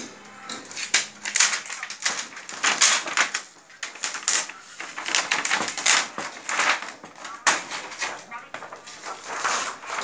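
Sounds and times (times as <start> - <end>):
plastic sheet crackling and rustling: 0.6 - 10.0.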